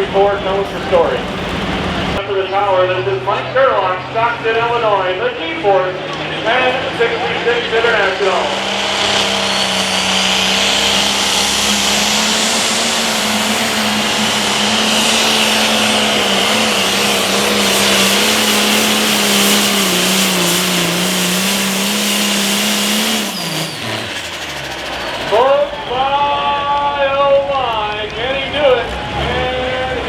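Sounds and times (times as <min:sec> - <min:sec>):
tractor diesel engine revving hard: 0:00.0 - 0:26.7, 0:28.4 - 0:30.0.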